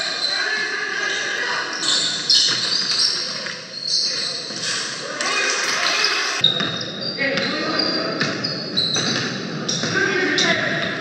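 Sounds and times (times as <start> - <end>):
players' voices echoing: 0.0 - 11.0.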